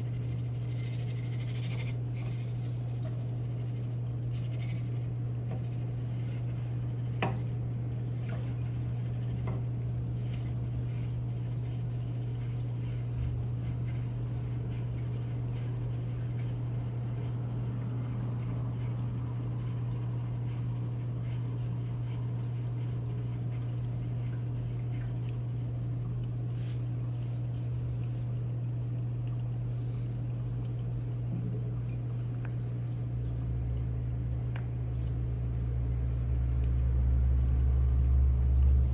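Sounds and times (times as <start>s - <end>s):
aquarium pump hum: 0.0s - 38.9s.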